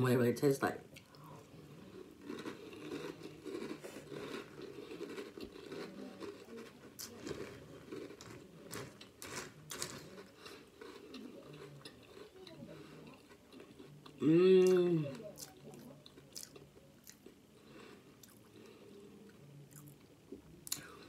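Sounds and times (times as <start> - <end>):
person chewing crunchy cereal: 1.0 - 21.0.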